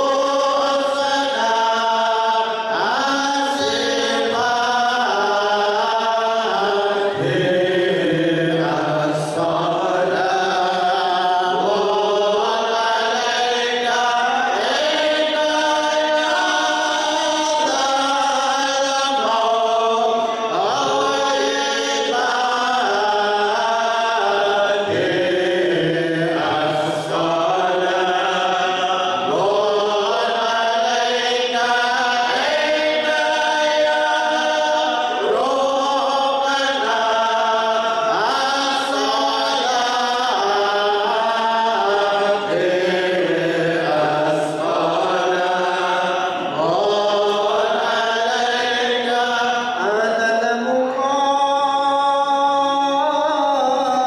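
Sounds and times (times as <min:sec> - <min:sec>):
men chanting together: 0:00.0 - 0:54.0.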